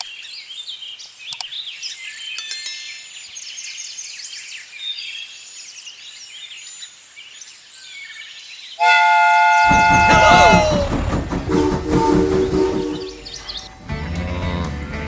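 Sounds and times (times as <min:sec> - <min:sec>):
birds chirping chorus: 0:00.0 - 0:14.7.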